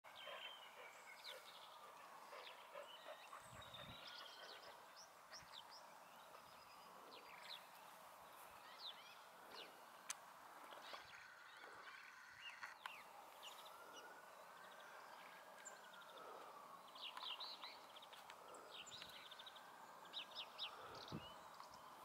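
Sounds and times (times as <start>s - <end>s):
faint background noise: 0.1s - 22.0s
flock of birds calling: 0.1s - 22.0s.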